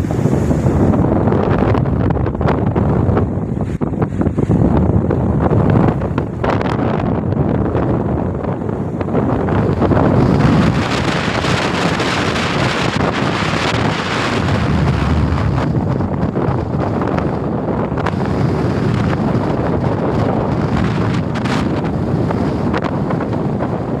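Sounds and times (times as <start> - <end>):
rough sea waves: 0.0 - 24.0
wind buffeting microphone: 0.0 - 24.0.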